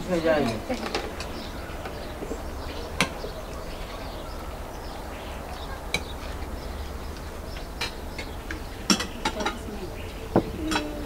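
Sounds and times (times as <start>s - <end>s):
low background rumble: 1.1s - 10.6s.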